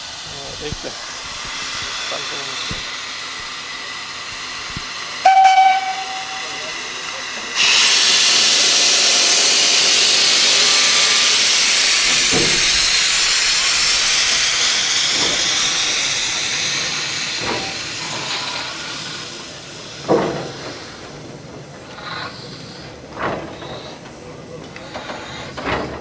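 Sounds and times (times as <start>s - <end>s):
steam locomotive hissing: 0.0s - 26.0s.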